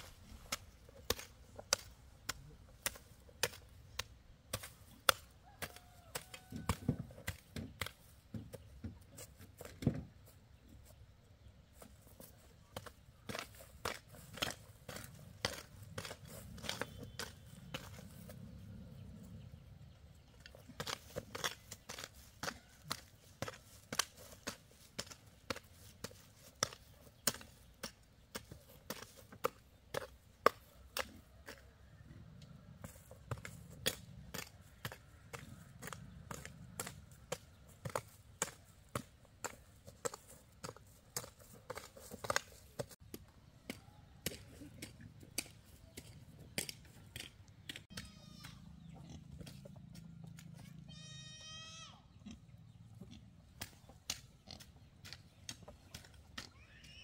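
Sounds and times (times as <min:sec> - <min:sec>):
hoes chopping into soil: 0:00.0 - 0:10.1, 0:11.8 - 0:18.4, 0:20.2 - 0:31.8, 0:32.8 - 0:50.6, 0:53.5 - 0:56.6.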